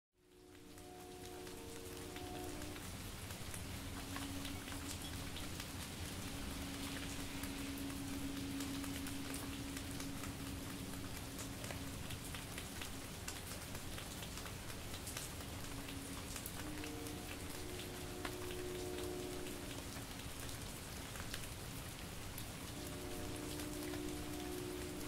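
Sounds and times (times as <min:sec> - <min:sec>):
light rain falling: 0:00.2 - 0:25.0
raindrops ticking: 0:00.2 - 0:25.0.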